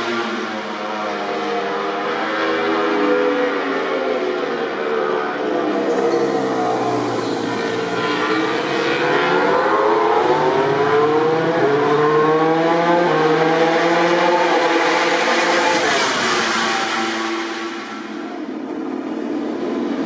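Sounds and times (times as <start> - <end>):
racing motorcycle engines: 0.0 - 20.0.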